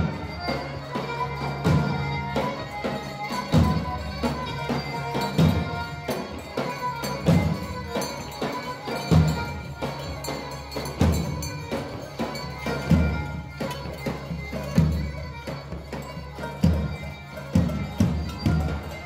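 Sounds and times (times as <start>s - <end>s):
sustained folk melody: 0.0s - 19.0s
large drum beaten: 1.5s - 19.0s.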